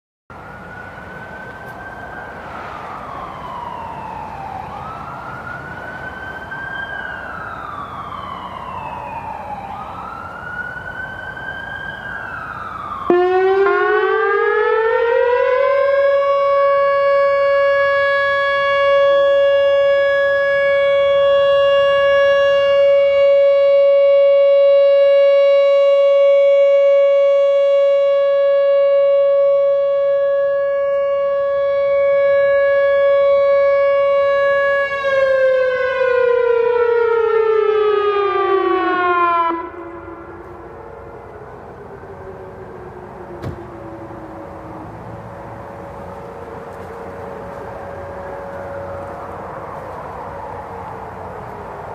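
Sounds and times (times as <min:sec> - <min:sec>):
distant warning sirens wailing: 0:00.3 - 0:51.9
loud electronic siren tone: 0:00.3 - 0:51.9.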